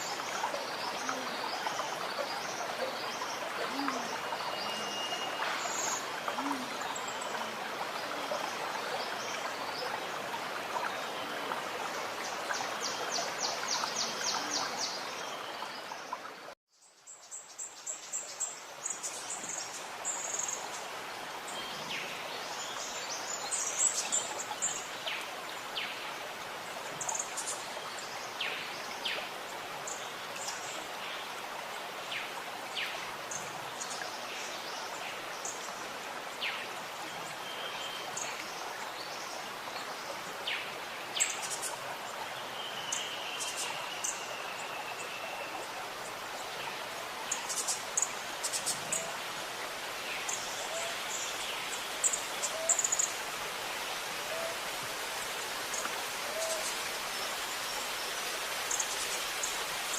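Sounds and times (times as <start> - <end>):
running water gurgling: 0.0 - 59.9.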